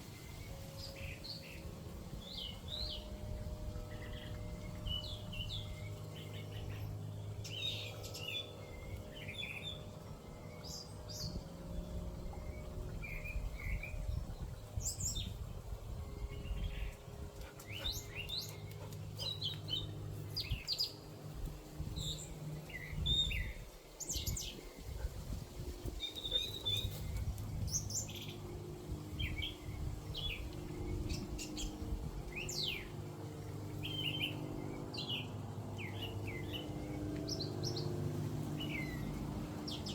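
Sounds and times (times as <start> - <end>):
songbird singing: 0.0 - 39.9
steady low hum: 0.0 - 39.9.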